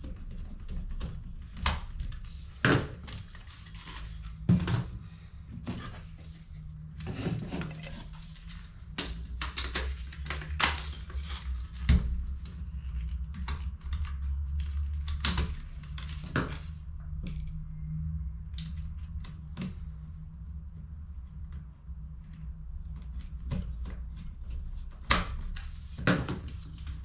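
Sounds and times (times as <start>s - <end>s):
steady low hum: 3.2s - 27.0s.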